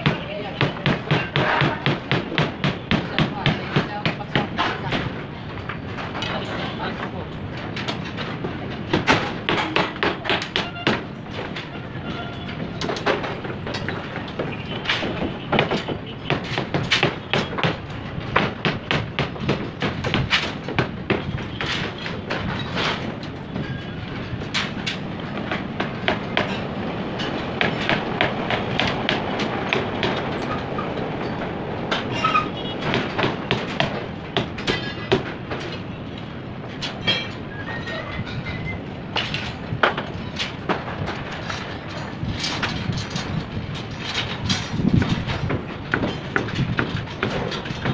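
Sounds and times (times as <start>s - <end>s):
sharp knocks and clanks: 0.0s - 47.9s.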